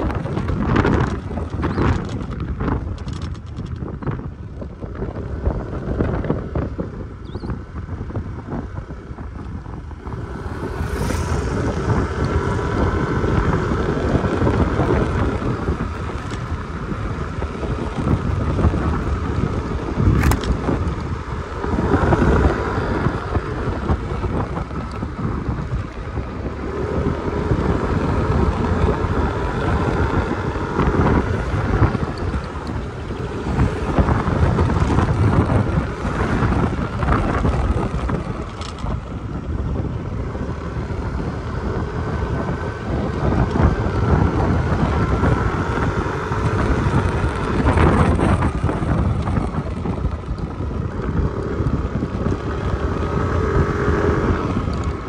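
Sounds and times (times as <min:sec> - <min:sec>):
scooter engine running: 0:00.0 - 0:55.0
wind rushing over microphone: 0:00.0 - 0:55.0.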